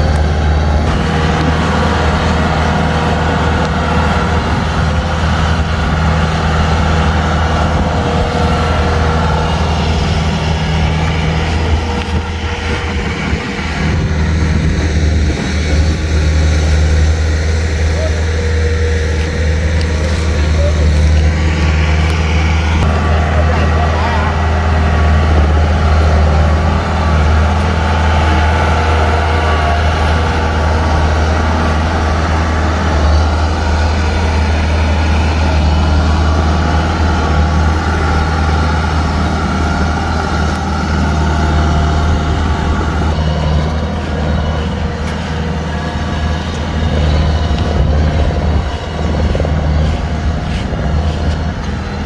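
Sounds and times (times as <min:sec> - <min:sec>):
combine harvester diesel engine: 0:00.0 - 0:52.0.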